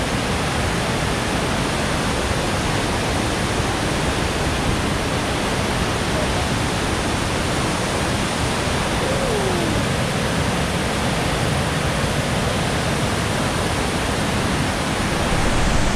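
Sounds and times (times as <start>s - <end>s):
water rushing down spillway: 0.0s - 15.9s.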